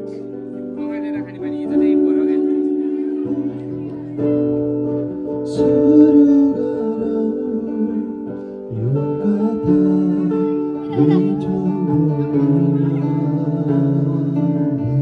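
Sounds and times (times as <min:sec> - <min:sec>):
acoustic guitar: 0:00.0 - 0:15.0
person singing: 0:00.0 - 0:15.0.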